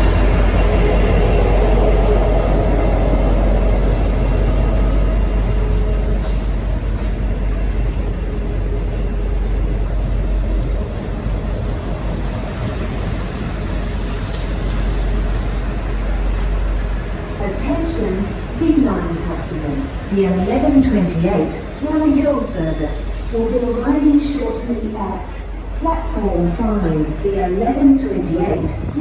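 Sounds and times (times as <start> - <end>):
diesel locomotive engine rumbling: 0.0 - 29.0.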